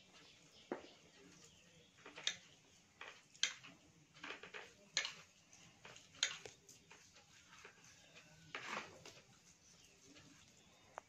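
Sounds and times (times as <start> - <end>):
fingers working rice on plate: 0.1 - 11.0.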